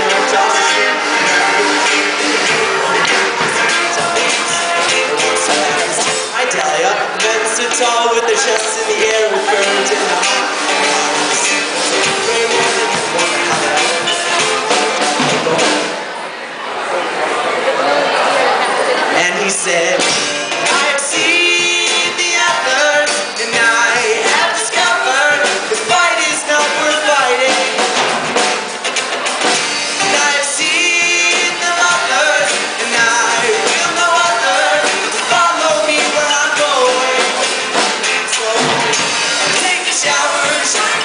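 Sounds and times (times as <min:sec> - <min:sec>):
song with sung vocals: 0:00.0 - 0:16.2, 0:19.0 - 0:41.0.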